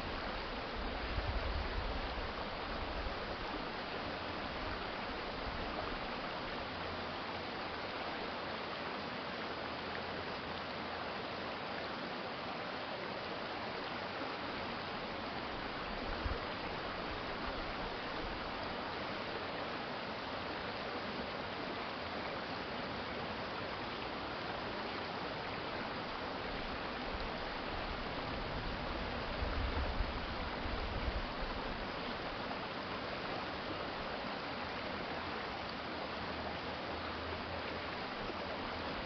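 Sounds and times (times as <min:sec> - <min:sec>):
stream water flowing: 0:00.0 - 0:39.0.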